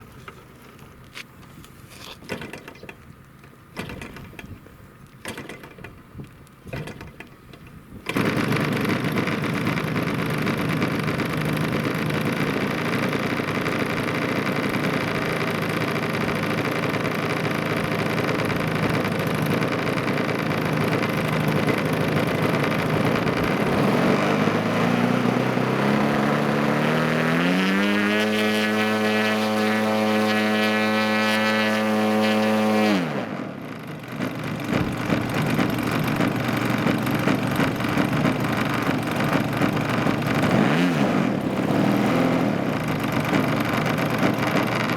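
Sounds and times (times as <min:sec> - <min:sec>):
model airplane engine and propeller: 0:00.0 - 0:44.9.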